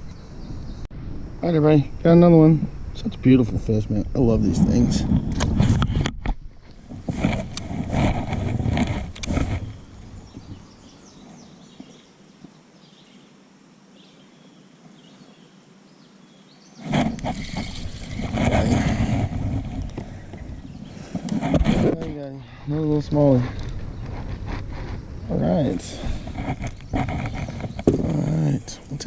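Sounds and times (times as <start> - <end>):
low outdoor microphone noise: 0.0 - 29.0.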